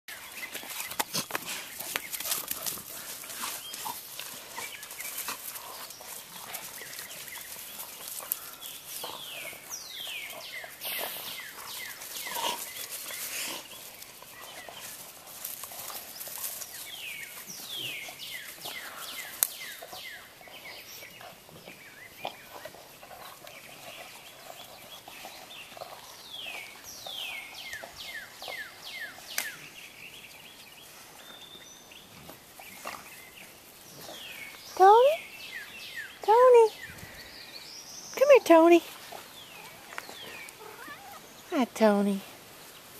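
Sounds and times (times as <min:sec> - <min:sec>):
sticks and paws rustling on grass: 0:00.1 - 0:42.9.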